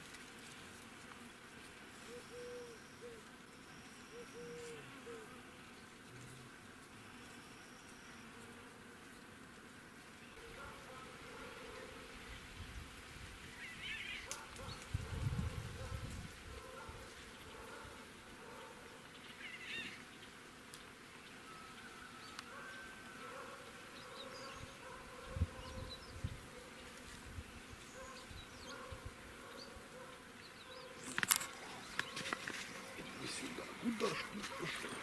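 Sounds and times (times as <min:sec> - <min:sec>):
insect buzzing: 0:00.0 - 0:35.0.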